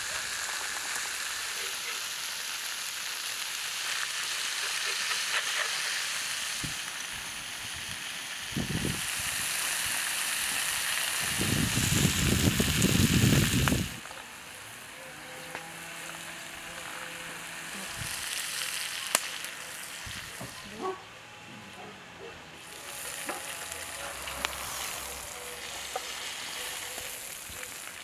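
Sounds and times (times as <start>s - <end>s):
fish sizzling on a griddle: 0.0s - 20.7s, 22.6s - 28.0s.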